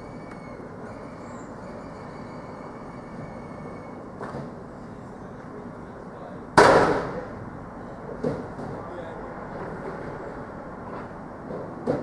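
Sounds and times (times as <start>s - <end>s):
steady vehicle hum: 0.0s - 12.0s.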